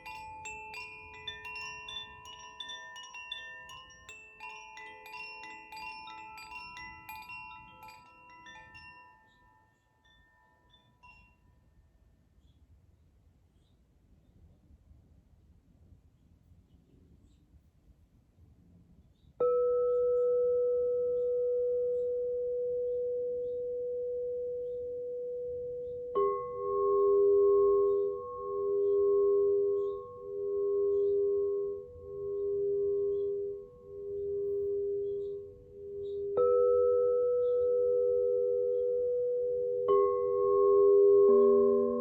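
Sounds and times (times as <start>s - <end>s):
lower singing bowl pulsing: 0.0s - 11.4s, 19.6s - 42.0s
singing bowl ringing: 0.0s - 11.9s, 19.4s - 42.0s.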